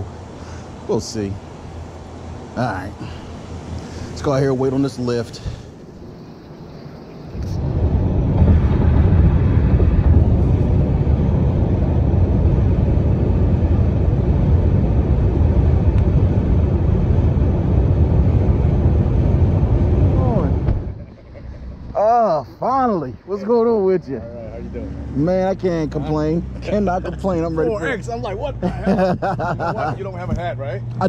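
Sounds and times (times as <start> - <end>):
road and wind noise: 0.0 - 31.0.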